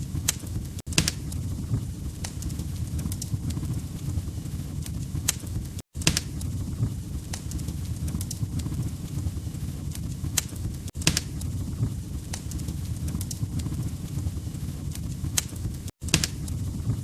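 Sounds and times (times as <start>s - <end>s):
fire pops and snaps: 0.0s - 17.0s
log fire crackling: 0.0s - 17.0s.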